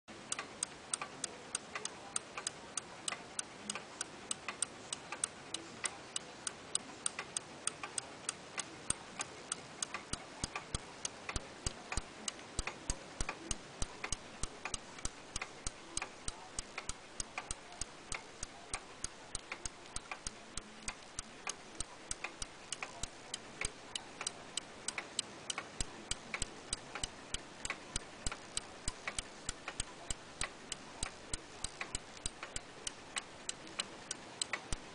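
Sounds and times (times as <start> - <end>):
clock ticking fast: 0.3 - 34.9.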